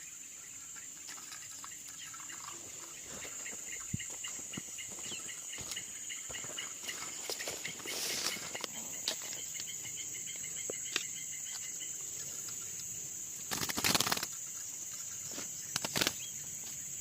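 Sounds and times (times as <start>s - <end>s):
bird chirps: 0.0s - 17.0s
high-pitched insect drone: 0.0s - 17.0s.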